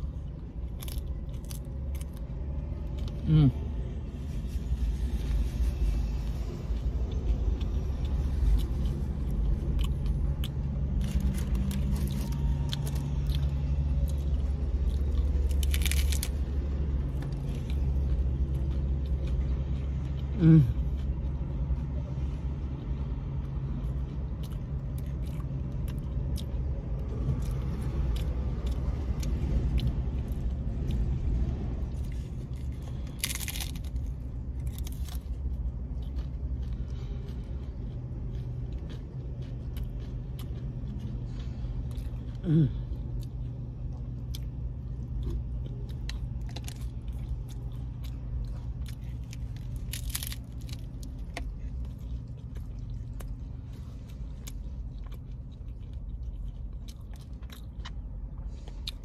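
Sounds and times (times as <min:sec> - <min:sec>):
crunchy tacos being chewed: 0:00.0 - 0:59.0
low hum inside car: 0:00.0 - 0:59.0.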